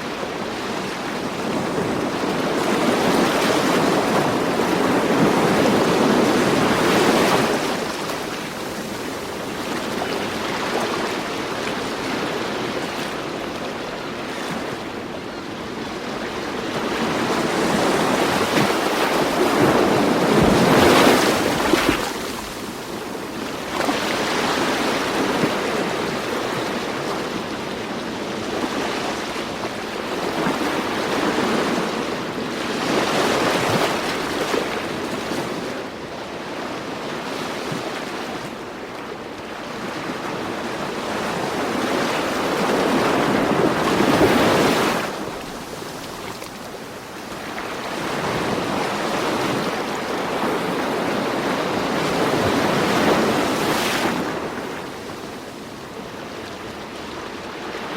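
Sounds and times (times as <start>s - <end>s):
ocean waves washing in: 0.0s - 57.9s.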